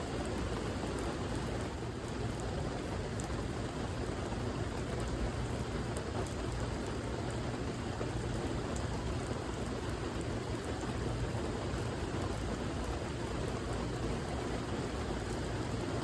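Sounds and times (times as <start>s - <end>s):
raindrop ticks: 0.1s - 3.9s, 4.6s - 15.6s.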